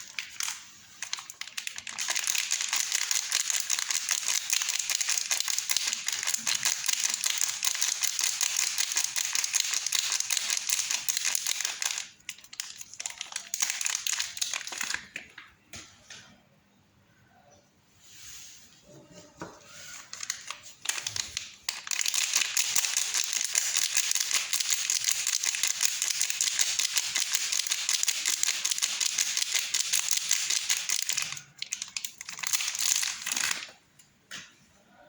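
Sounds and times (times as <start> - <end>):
soap wrapper crinkling: 0.0 - 15.5, 20.0 - 33.8.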